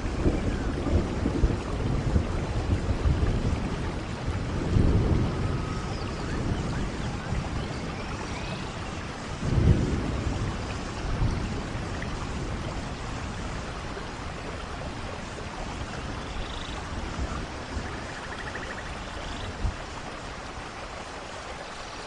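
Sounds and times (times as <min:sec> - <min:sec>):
distant thunder rumbles: 0:00.0 - 0:20.6
steady rain: 0:00.0 - 0:22.0.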